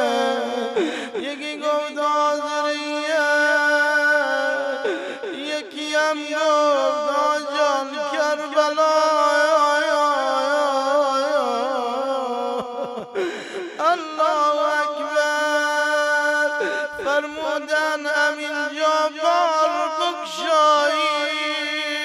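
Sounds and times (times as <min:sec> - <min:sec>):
man chanting a mournful lament: 0:00.0 - 0:22.0.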